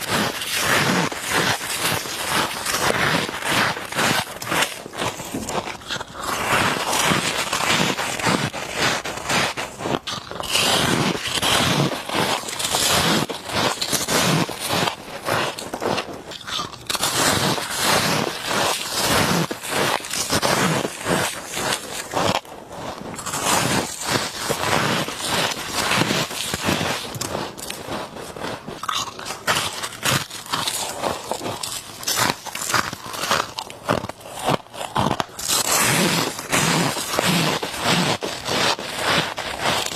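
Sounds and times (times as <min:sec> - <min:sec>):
frost being crunched by chewing: 0:00.0 - 0:39.9.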